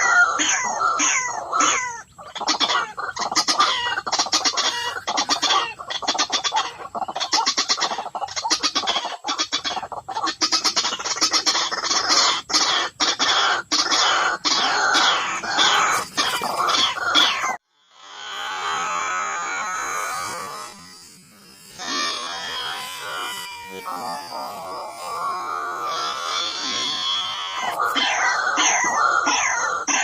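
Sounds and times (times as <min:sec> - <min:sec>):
bird harsh croaking calls: 0:00.0 - 0:30.0.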